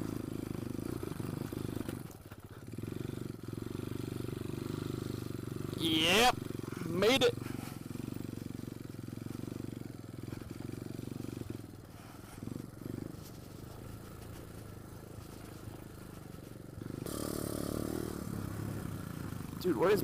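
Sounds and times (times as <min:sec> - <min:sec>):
small motorbike engine running: 0:00.0 - 0:20.0.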